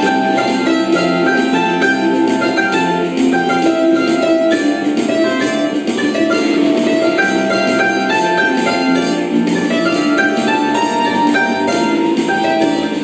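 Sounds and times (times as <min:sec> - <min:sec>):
hammered dulcimer melody: 0:00.0 - 0:13.0.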